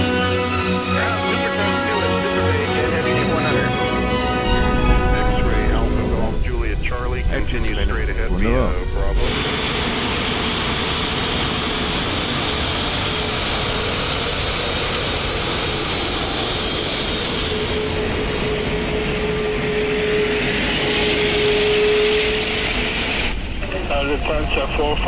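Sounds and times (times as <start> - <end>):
jet engine noise: 0.0 - 25.0.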